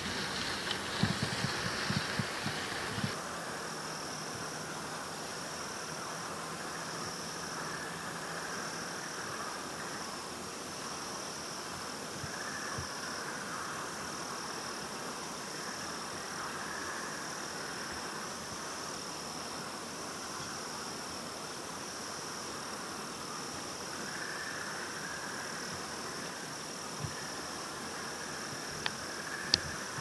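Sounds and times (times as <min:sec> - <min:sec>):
even hiss: 0:00.0 - 0:30.0
high-pitched insect trill: 0:00.0 - 0:30.0
lower insect chorus: 0:00.0 - 0:30.0.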